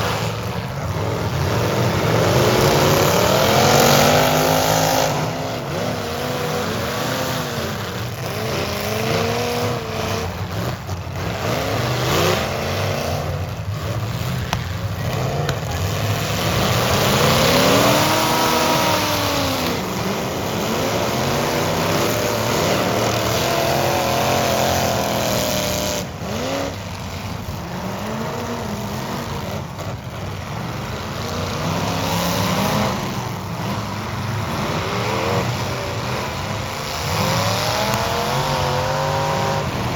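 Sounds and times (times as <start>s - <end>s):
car engines revving: 0.0s - 39.9s
constant rumble: 0.0s - 39.9s.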